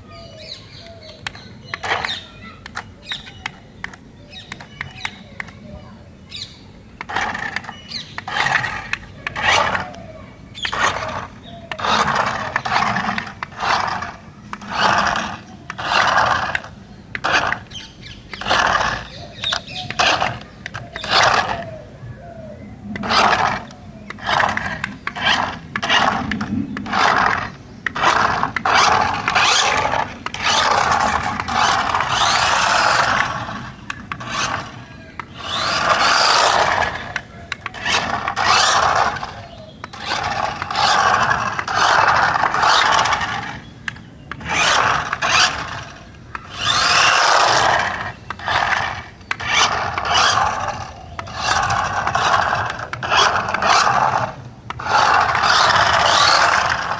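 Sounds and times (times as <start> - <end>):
toy car motor whirring: 0.0 - 56.9.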